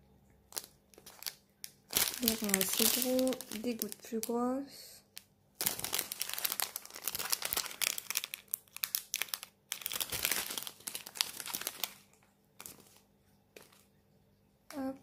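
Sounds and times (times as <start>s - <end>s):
plastic bags crinkling: 0.5s - 13.9s.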